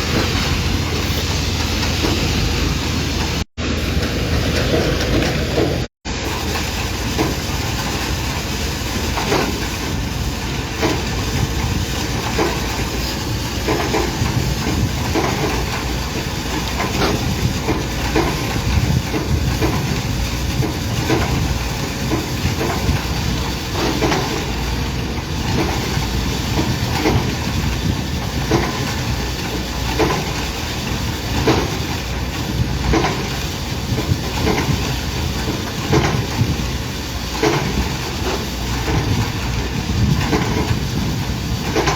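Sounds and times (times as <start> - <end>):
heavy machinery rumbling: 0.0 - 41.9.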